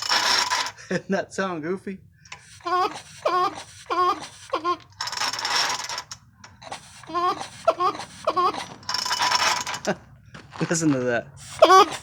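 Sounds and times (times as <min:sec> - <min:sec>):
chainsaw starter cord squeaking: 0:00.0 - 0:12.0.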